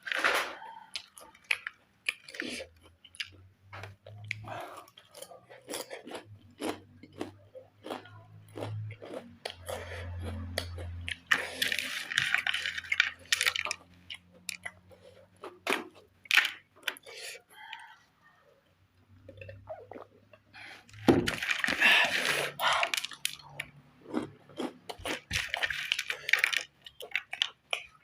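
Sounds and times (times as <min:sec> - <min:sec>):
chewing crunchy snacks: 0:00.0 - 0:18.0, 0:19.2 - 0:28.0.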